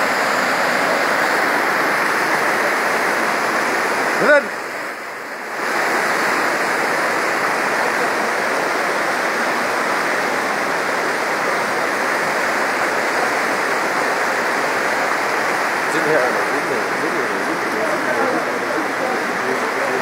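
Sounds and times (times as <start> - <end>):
floodwater rushing over rocks: 0.0 - 20.0.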